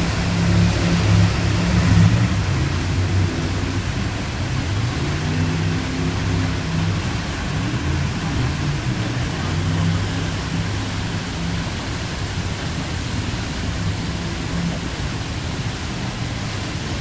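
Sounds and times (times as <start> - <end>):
boat engine droning: 0.0 - 17.0
whitewater rushing: 0.0 - 17.0.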